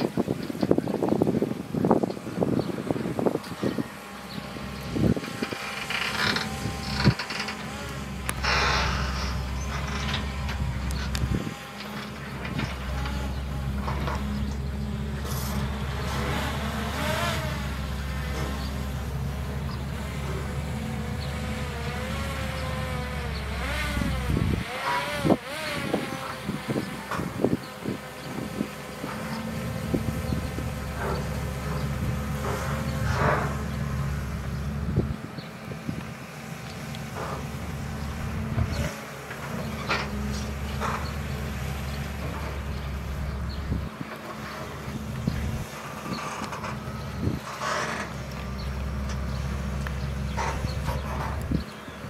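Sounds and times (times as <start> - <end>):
hydraulic whine: 0.0 - 51.8
diesel engine drone: 0.0 - 52.0.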